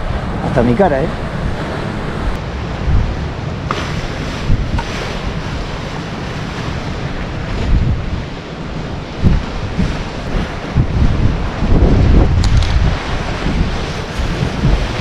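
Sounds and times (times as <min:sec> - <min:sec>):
waves washing against seawall: 0:00.0 - 0:15.0
wind buffeting microphone: 0:00.0 - 0:15.0.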